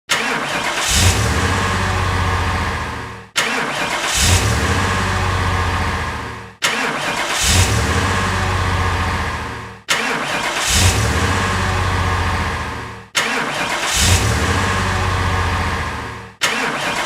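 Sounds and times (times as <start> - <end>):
car engine starting: 0.1 - 17.0.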